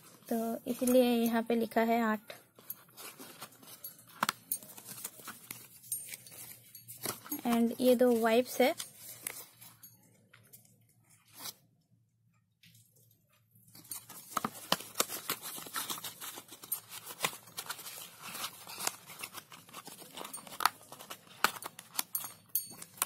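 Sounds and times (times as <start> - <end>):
paper and cardboard crinkling: 0.0 - 1.5, 2.1 - 11.6, 13.7 - 23.0.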